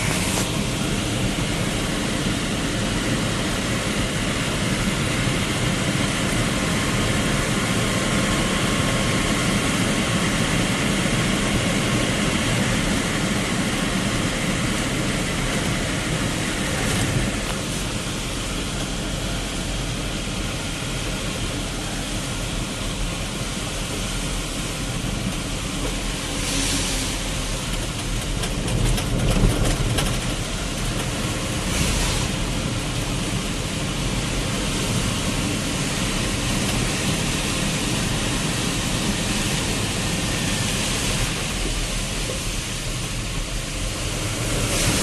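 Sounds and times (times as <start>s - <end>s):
heavy rain: 0.0s - 45.0s
tyres on wet road: 0.0s - 45.0s
vehicle engine: 0.0s - 45.0s.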